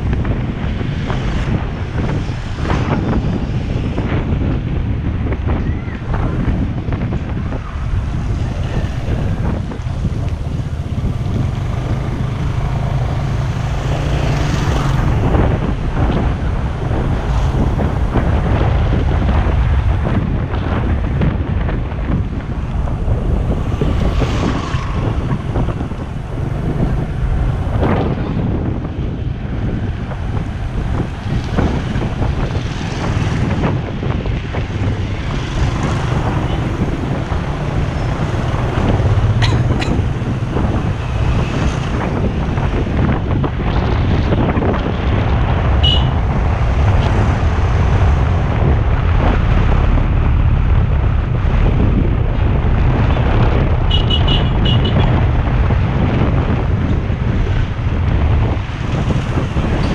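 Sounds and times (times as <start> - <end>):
wind blowing over microphone: 0.0 - 59.9.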